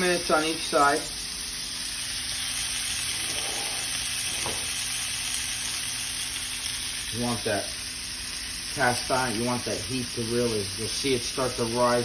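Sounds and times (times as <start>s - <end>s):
fish sizzling in a skillet: 0.0s - 12.0s.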